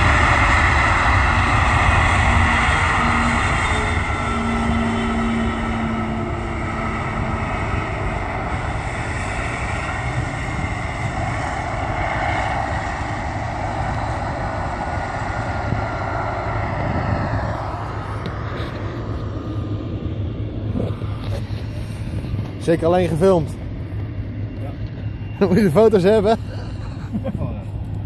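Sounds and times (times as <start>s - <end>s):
jet engines at takeoff: 0.0s - 28.0s.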